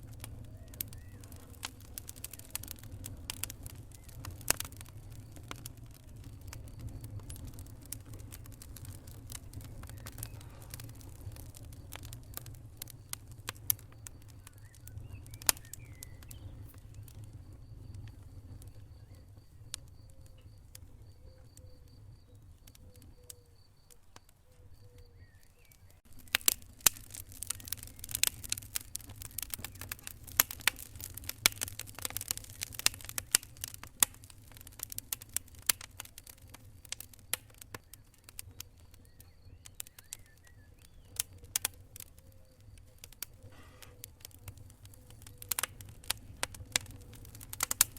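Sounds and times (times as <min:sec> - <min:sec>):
fire low rumble: 0:00.0 - 0:47.9
wood fire crackling and popping: 0:00.0 - 0:47.9.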